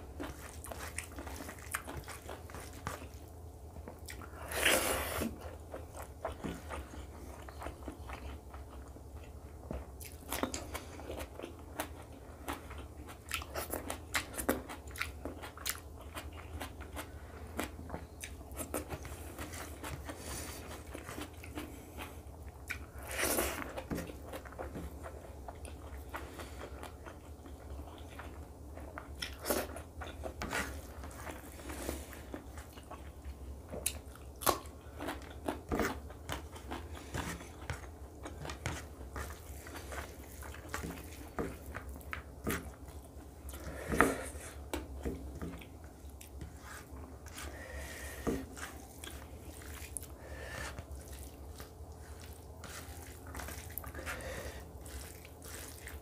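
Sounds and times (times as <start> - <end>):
person chewing and smacking: 0.0 - 56.0
steady low hum: 0.0 - 56.0.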